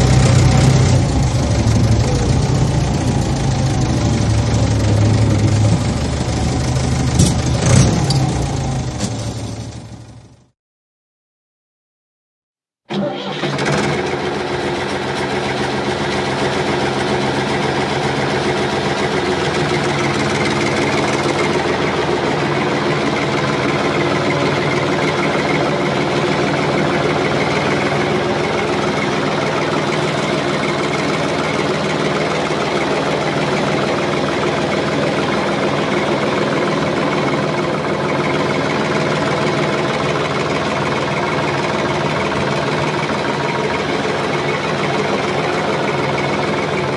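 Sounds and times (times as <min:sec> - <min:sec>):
tractor engine running: 0:00.0 - 0:10.5, 0:12.9 - 0:46.9.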